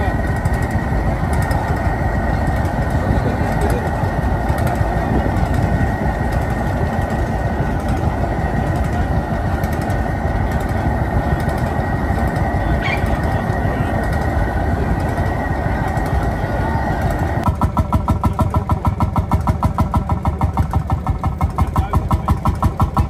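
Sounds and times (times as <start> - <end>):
high engine whine: 0.0 - 23.0
tractor engine rumbling: 0.0 - 23.0.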